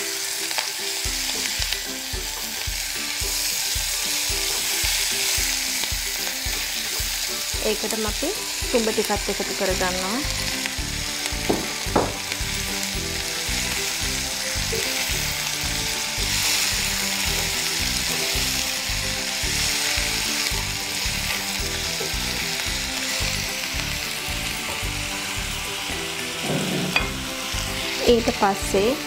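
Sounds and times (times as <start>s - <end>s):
background music: 0.0s - 29.0s
food sizzling in oil: 0.0s - 29.0s.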